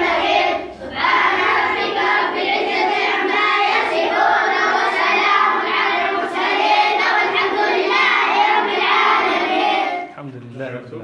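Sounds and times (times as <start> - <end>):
children chanting in unison: 0.0 - 10.2.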